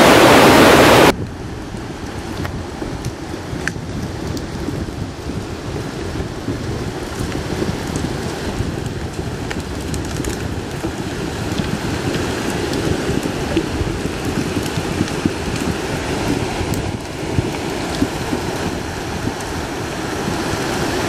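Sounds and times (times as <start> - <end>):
flash flood rushing and crackling: 0.0 - 21.0.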